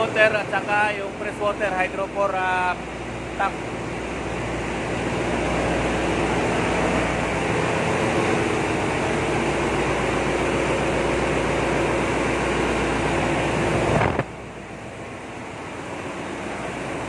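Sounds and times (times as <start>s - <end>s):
engine room machinery din: 0.0s - 17.0s
steady humming tones: 0.0s - 17.0s.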